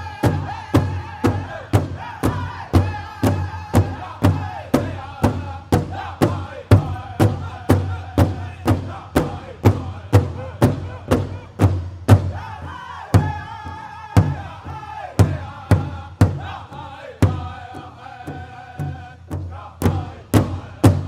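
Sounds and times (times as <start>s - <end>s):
large drum beating: 0.0s - 21.0s
voices chanting high: 0.0s - 21.0s.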